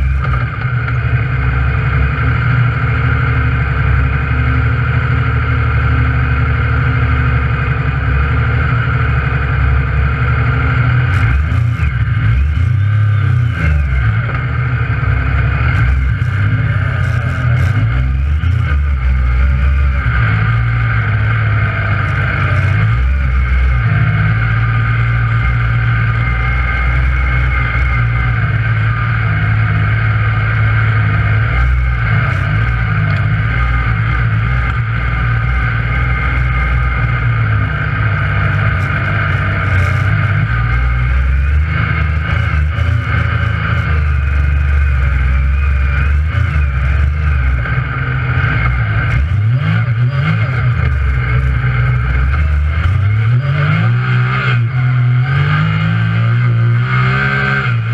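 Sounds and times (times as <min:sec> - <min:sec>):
engine running under load: 0:00.0 - 0:57.9.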